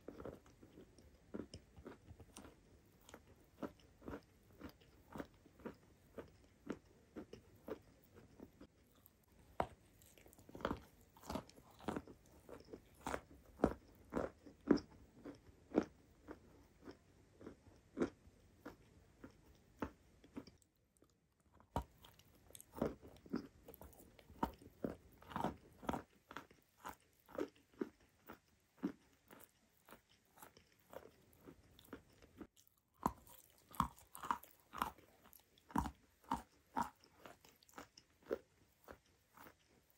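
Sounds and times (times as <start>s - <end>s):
chalk crunching and chewing: 0.0s - 39.9s.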